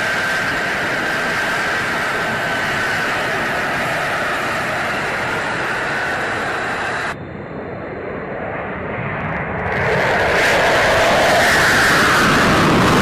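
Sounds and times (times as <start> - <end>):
fighter jet engine roaring: 0.0 - 13.0.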